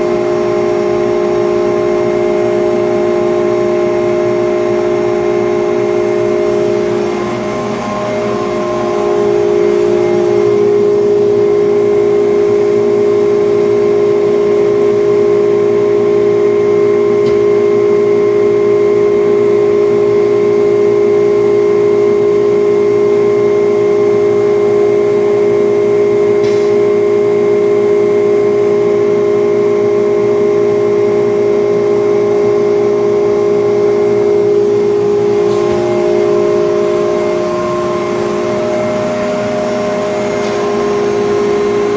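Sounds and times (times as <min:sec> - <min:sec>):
cnc router whine: 0:00.0 - 0:41.9.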